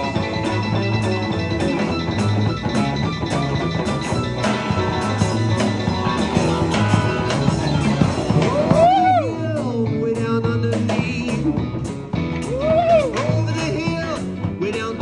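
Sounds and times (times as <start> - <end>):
drum kit steady beat: 0.0 - 15.0
electric guitars and bass: 0.0 - 15.0.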